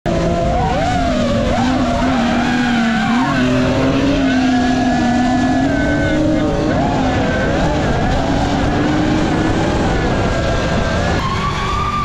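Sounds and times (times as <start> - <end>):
car engine at high revs: 0.1 - 12.0
tyres skidding: 0.1 - 12.0.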